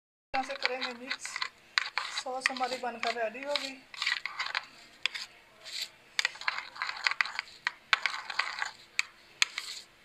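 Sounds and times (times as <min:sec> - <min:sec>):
spoon scraping in bowl: 0:00.4 - 0:09.9.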